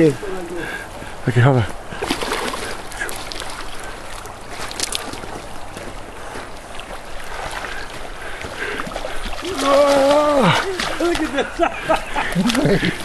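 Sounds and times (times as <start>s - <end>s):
river water rushing: 0.0s - 13.0s
water splashes: 1.8s - 13.0s.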